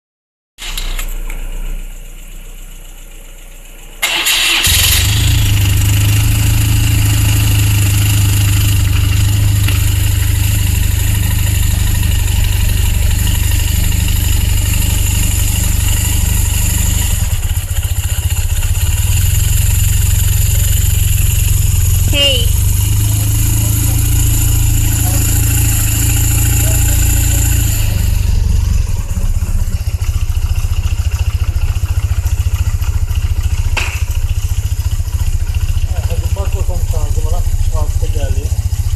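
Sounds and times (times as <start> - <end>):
car engine running: 0.6 - 38.9.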